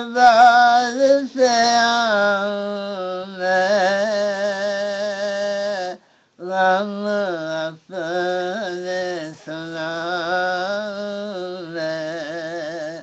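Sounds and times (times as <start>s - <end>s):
person singing devotional chant: 0.0s - 13.0s.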